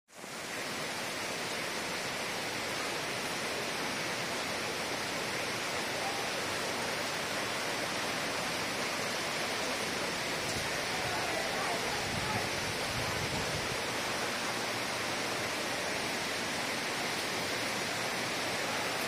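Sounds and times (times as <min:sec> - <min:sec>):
heavy rain on foliage: 0:00.1 - 0:19.0.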